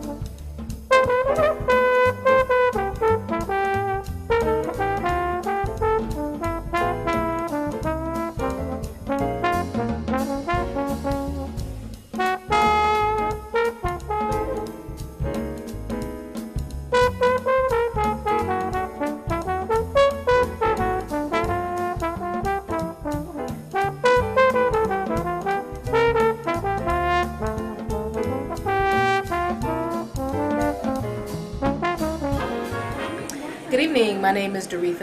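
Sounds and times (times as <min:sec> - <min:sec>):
brass melody: 0:00.0 - 0:16.0, 0:16.8 - 0:34.8
steady drum beat: 0:00.0 - 0:34.6.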